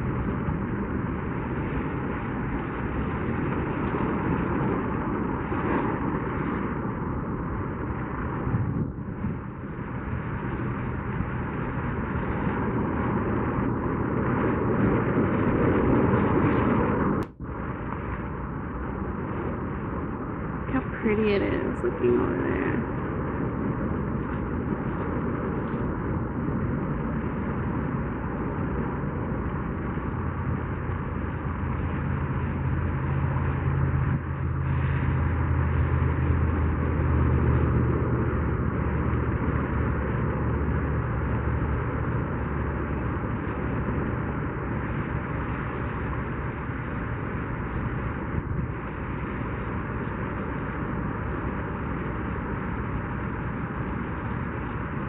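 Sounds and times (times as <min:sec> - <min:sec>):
faint hum: 0:00.0 - 0:55.0
low rumble: 0:00.0 - 0:55.0.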